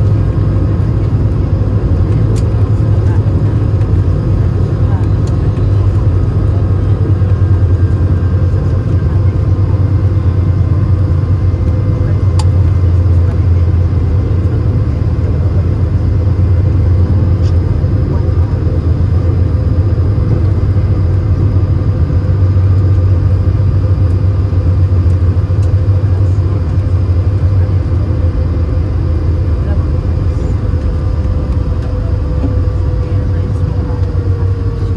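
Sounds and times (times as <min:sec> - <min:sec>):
airplane cabin rumble: 0:00.0 - 0:34.9
faint steady whine: 0:00.0 - 0:34.9.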